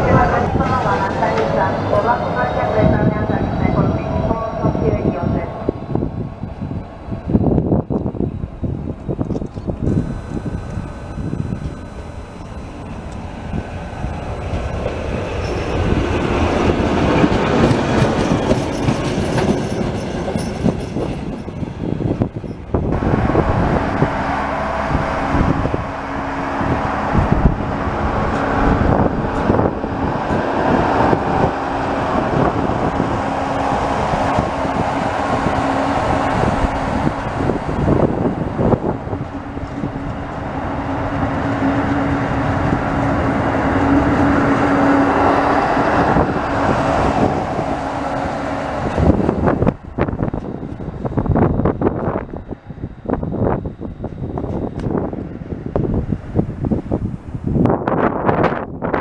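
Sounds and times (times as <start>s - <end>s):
electric locomotive passing: 0.0s - 59.0s.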